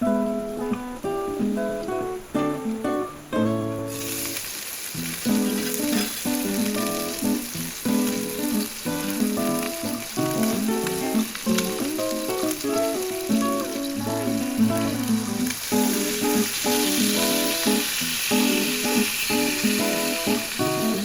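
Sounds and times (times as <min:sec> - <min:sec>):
acoustic guitar music: 0:00.0 - 0:21.0
food sizzling in a pan: 0:00.0 - 0:21.0.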